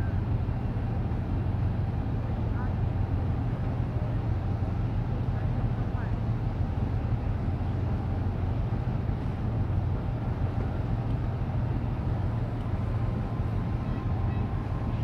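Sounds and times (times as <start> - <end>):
ship engine rumble: 0.0 - 15.0.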